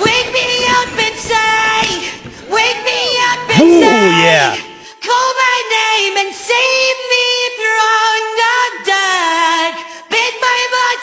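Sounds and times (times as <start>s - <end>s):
woman singing pop song: 0.0s - 4.2s, 4.9s - 11.0s.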